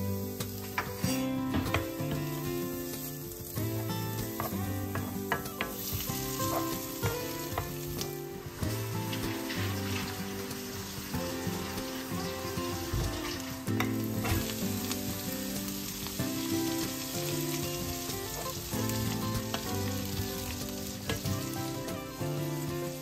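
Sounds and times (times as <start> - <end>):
food sizzling in a skillet: 0.0 - 23.0
peas clattering into pan: 0.3 - 23.0.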